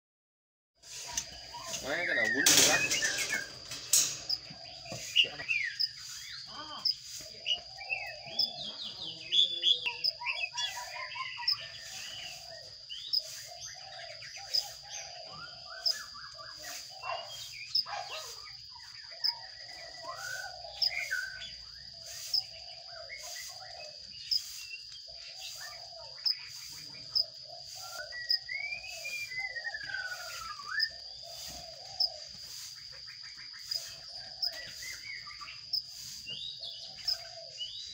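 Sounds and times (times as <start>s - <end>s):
sliding whistled bird calls: 0.8s - 8.5s, 9.8s - 18.5s, 19.3s - 37.9s
sparrows chirping: 0.8s - 37.9s.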